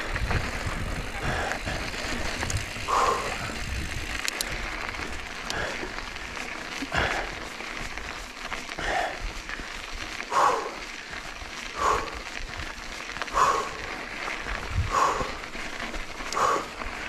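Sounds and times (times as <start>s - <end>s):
bike tyre and wind rush: 0.0s - 17.0s.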